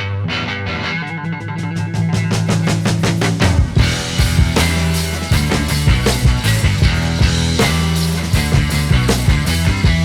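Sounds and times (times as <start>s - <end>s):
rock music: 0.0s - 10.0s.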